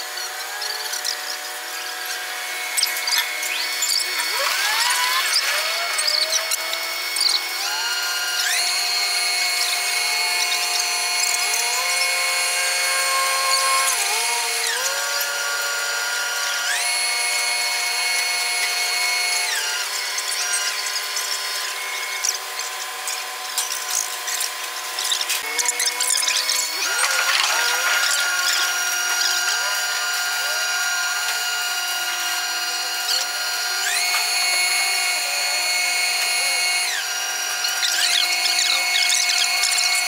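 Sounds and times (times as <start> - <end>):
hoist winch whining: 0.0 - 40.0.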